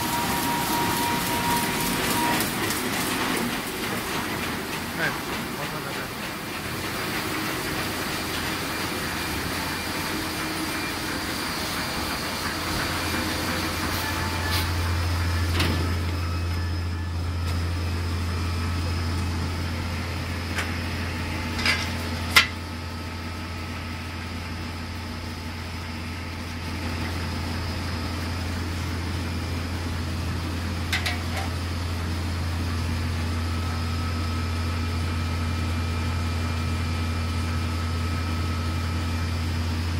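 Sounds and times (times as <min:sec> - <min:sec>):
printing press machinery humming: 0:00.0 - 0:39.9.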